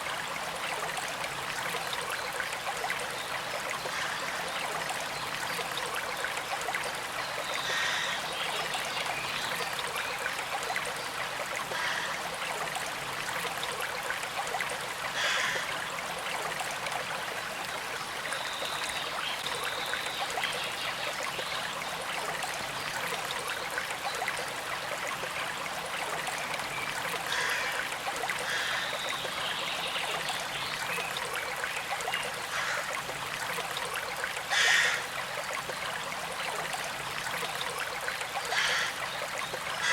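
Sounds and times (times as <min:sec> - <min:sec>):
creek trickling: 0:00.0 - 0:39.9
water gurgles: 0:00.0 - 0:39.9.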